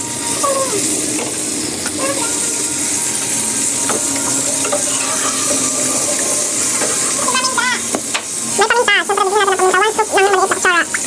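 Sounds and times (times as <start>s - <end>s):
gravy sizzling and bubbling: 0.0s - 11.0s.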